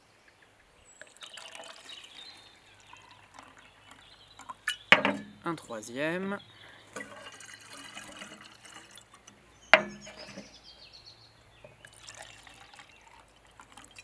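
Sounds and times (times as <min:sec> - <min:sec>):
water pouring: 0:00.9 - 0:10.5, 0:11.6 - 0:14.0.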